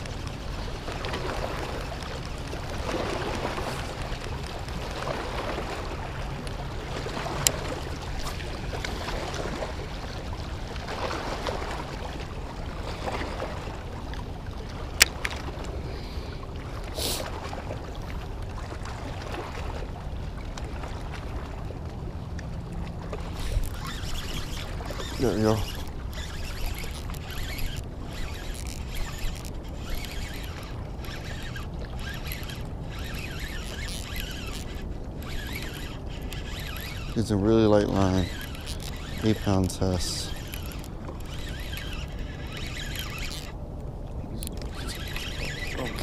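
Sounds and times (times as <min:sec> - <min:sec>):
small waves washing on shore: 0:00.0 - 0:46.0
wind: 0:00.0 - 0:46.0.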